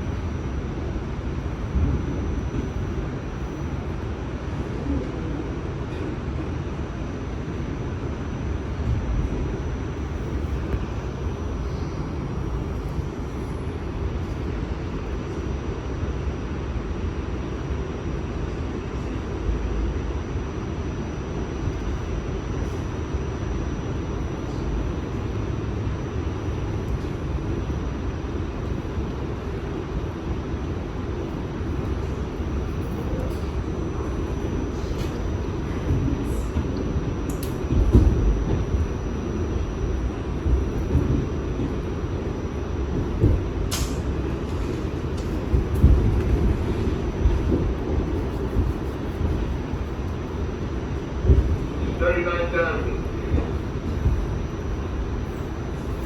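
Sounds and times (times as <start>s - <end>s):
faint high whine: 0.0s - 56.0s
subway wheels rumbling on rail: 0.0s - 56.0s.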